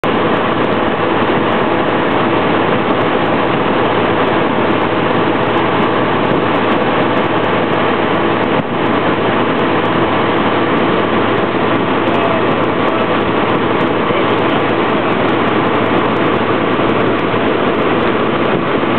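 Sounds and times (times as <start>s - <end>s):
microlight engine droning: 0.0s - 18.9s.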